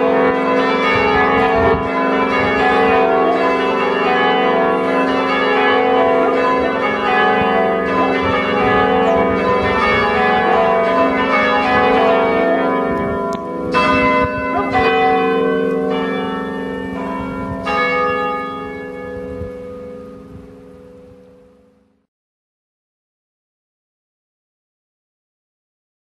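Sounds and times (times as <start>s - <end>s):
church bells ringing: 0.0s - 21.9s.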